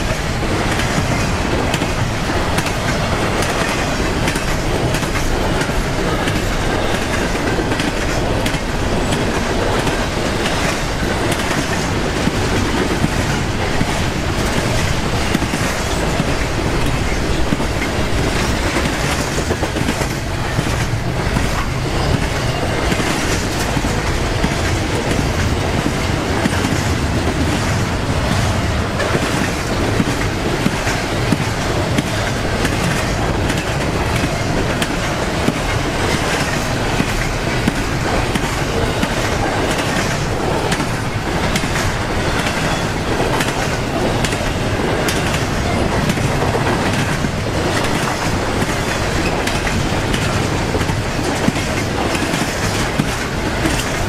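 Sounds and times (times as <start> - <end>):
rumble of wheels on rails: 0.0 - 54.0
train wheels clicking over rail joints: 0.0 - 54.0.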